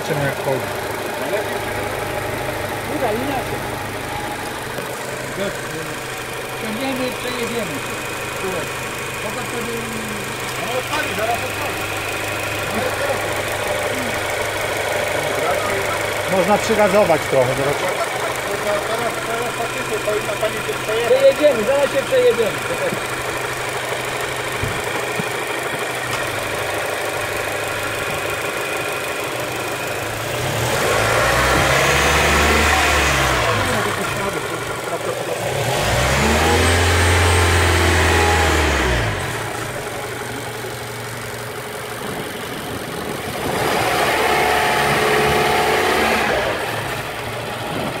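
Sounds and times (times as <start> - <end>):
car engine idling and revving: 0.0 - 48.0.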